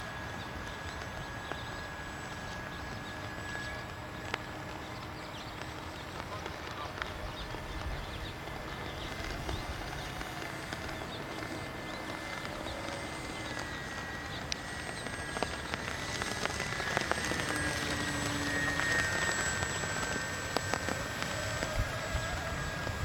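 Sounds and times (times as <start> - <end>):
model airplane motor whine: 0.0 - 23.0
outdoor background noise: 0.0 - 23.0.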